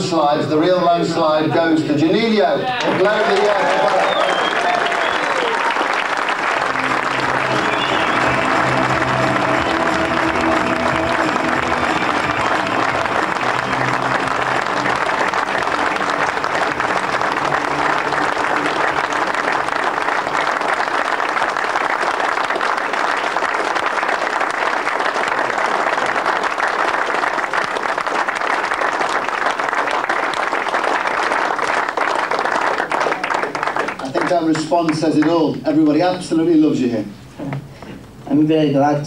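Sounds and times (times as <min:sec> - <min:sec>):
large audience applauding: 0:02.7 - 0:36.6.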